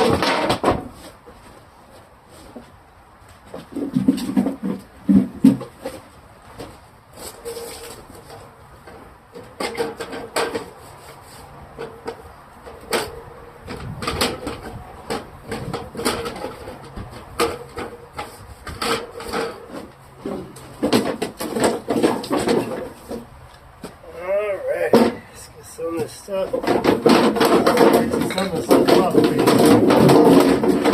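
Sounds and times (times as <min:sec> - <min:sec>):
clatter of items being handled: 0:00.0 - 0:24.0, 0:26.4 - 0:30.9.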